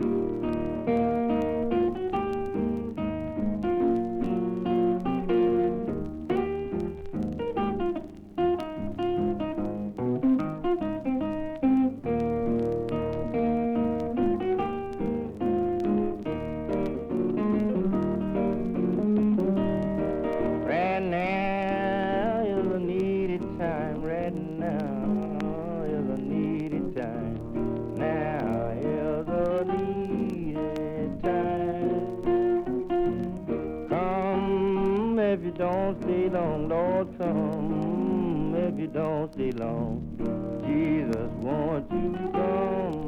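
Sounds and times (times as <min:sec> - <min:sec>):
acoustic blues guitar: 0:00.0 - 0:43.0
sliding guitar notes: 0:00.0 - 0:43.0.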